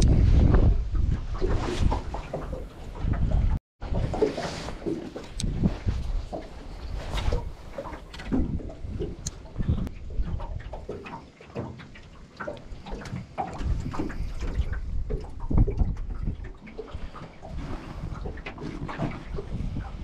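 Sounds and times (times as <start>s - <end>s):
wind rumbling on microphone: 0.0s - 11.2s, 12.0s - 20.0s
water lapping against boat hull: 0.0s - 20.0s.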